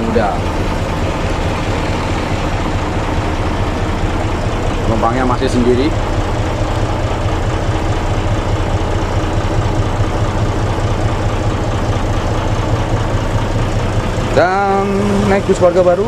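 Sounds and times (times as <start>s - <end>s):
diesel bus engine running: 0.0s - 16.0s.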